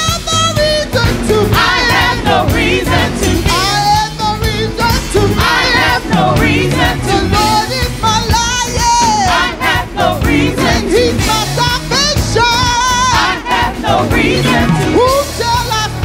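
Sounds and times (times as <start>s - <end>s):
instrumental backing with steady beat: 0.0s - 16.0s
group singing gospel: 0.5s - 16.0s.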